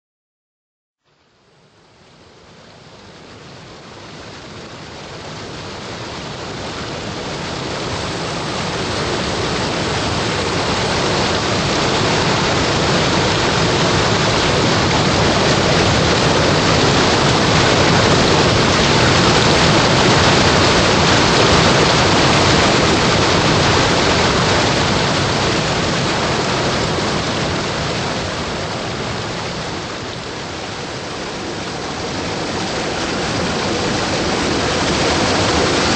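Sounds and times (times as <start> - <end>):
stream water rushing over rocks: 1.6 - 35.9.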